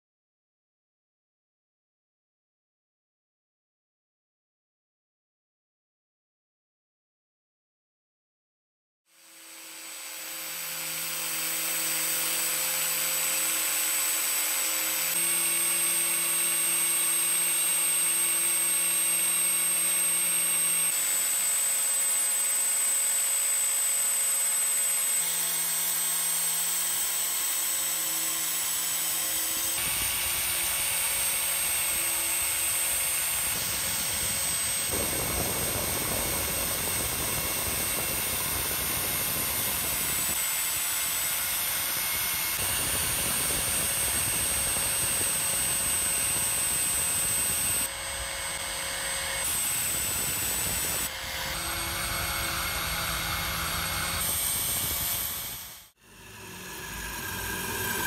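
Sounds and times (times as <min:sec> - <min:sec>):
power tool whining: 0:09.1 - 0:58.0.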